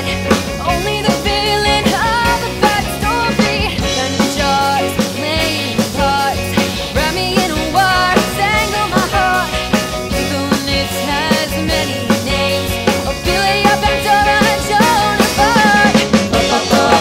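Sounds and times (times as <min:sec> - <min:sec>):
drum kit beat: 0:00.0 - 0:17.0
rock band playing: 0:00.0 - 0:17.0
sliding lead melody: 0:00.0 - 0:17.0.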